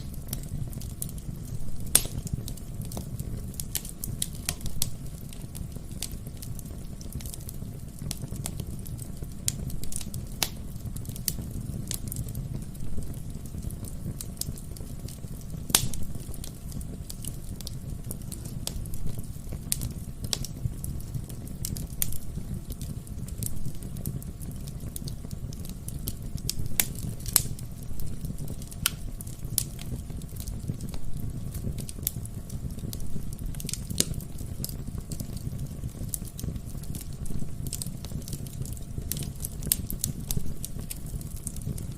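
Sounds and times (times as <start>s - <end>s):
burning logs crackling and popping: 0.0s - 41.9s
low rumble of flames: 0.0s - 41.9s.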